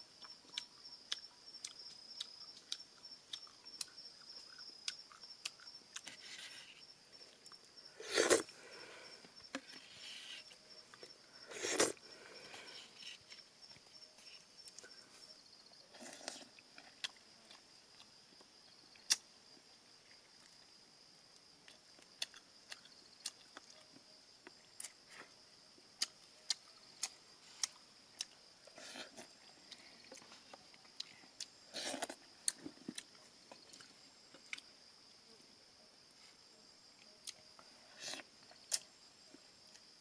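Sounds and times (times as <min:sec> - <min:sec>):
insect chirring: 0:00.0 - 0:40.0.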